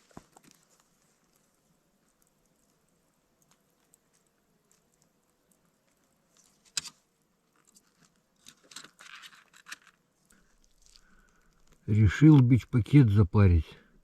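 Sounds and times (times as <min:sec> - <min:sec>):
faint scraping and rustling: 0:00.0 - 0:12.6.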